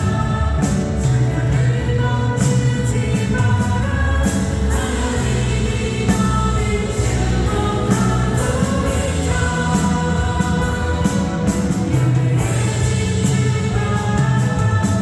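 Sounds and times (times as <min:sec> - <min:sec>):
band accompaniment: 0:00.0 - 0:15.0
voices singing together: 0:00.0 - 0:15.0.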